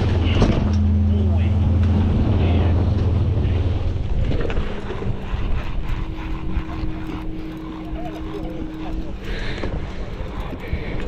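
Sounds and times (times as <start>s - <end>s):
water rushing past hull: 0.0s - 10.9s
outboard motor drone: 0.0s - 11.0s
wind on microphone: 0.0s - 11.0s.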